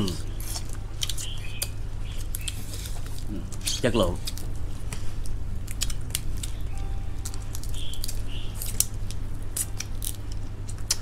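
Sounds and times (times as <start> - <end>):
crab shell crunching: 0.0 - 11.0
low hum: 0.0 - 11.0.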